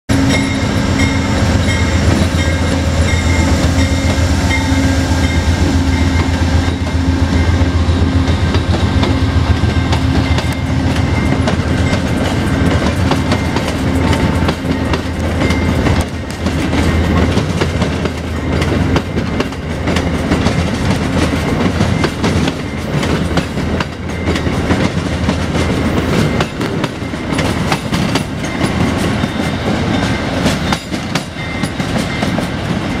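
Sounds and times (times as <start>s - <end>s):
diesel locomotive engine humming: 0.1s - 33.0s
train wheels clacking over rails: 0.1s - 33.0s.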